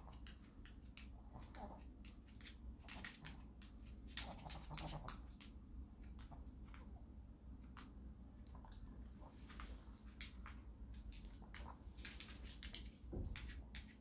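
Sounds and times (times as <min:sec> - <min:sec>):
dog claws clicking on floor: 0:00.0 - 0:06.9, 0:09.5 - 0:14.0.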